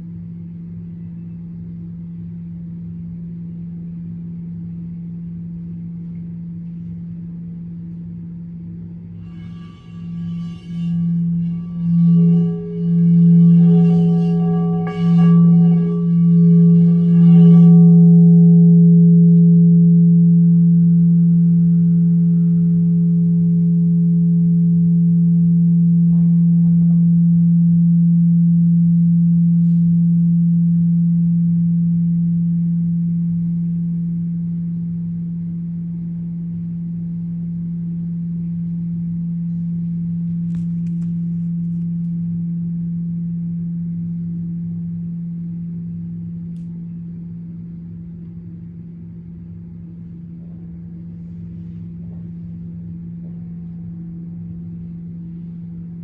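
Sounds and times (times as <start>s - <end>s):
deep ringing tone: 0.0s - 56.0s.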